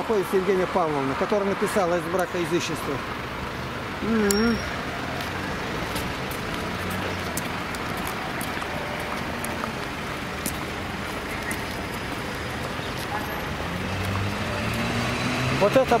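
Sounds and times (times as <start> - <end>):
passing cars and buses: 0.0 - 16.0.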